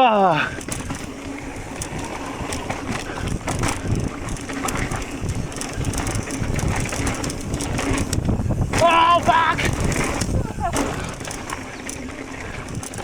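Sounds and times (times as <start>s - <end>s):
bike tyre rumble: 0.2s - 13.0s
bike rattling and clacking: 0.3s - 13.0s
wind buffeting microphone: 0.5s - 13.0s.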